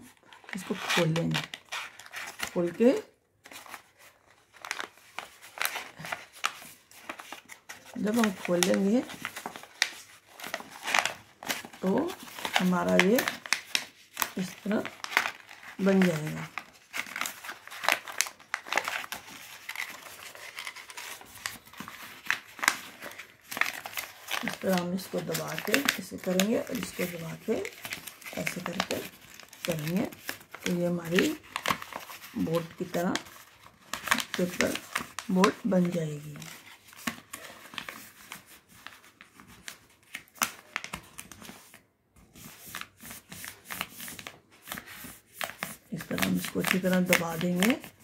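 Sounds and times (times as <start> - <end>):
paper crinkling while folded: 0.0 - 48.0.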